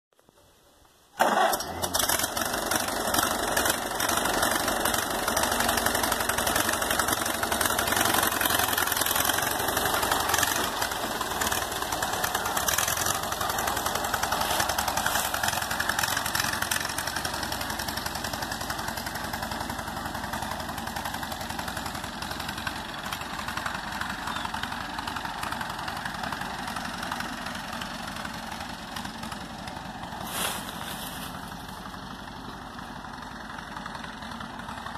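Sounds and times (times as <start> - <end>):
tractor engine driving off: 1.1 - 34.9.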